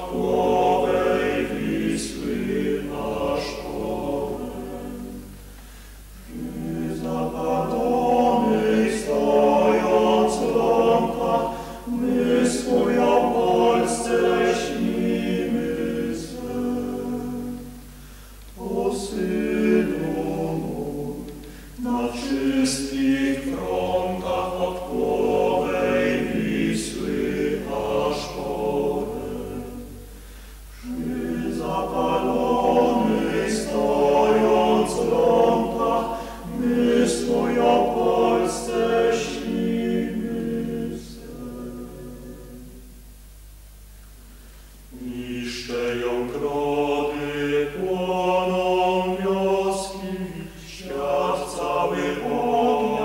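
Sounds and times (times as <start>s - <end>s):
voices singing unaccompanied: 0.0s - 43.0s, 44.9s - 53.0s.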